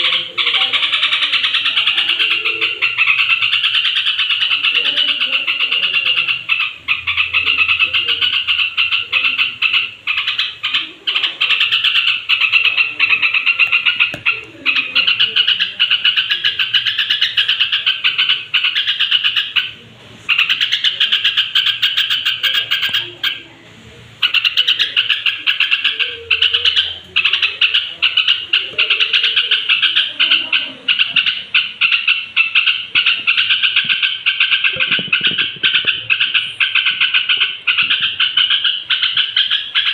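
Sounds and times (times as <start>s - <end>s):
bulbul singing: 0.0s - 23.6s, 24.2s - 39.9s.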